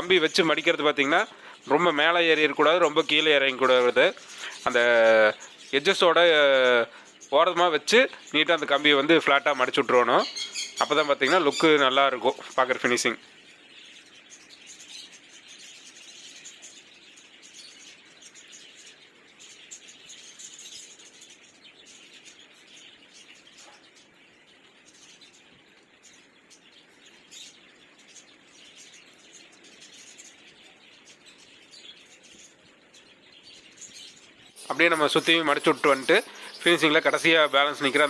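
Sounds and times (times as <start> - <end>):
birds chirping and chattering: 0.0 - 38.0.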